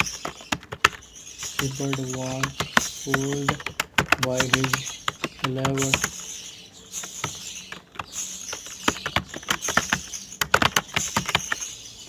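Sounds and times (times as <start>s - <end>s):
keyboard typing clicks: 0.0s - 6.1s, 7.2s - 11.7s.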